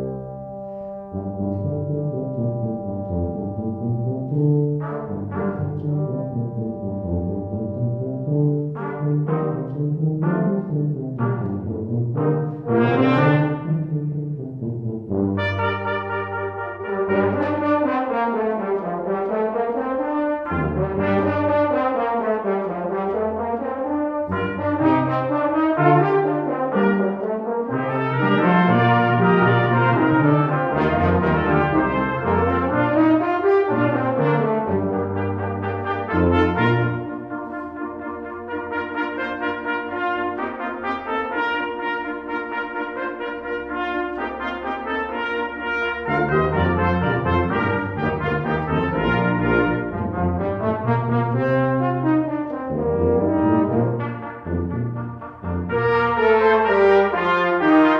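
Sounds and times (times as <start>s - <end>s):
brass ensemble playing chords: 0.0s - 57.9s.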